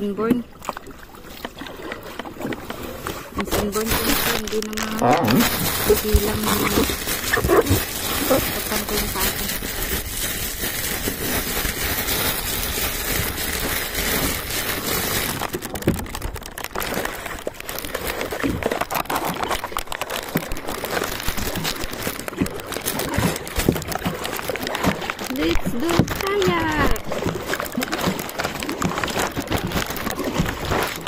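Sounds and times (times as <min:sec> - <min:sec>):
irregular clicks and pops: 0:00.3 - 0:09.1, 0:13.1 - 0:31.0
rustling on phone microphone: 0:02.4 - 0:31.0.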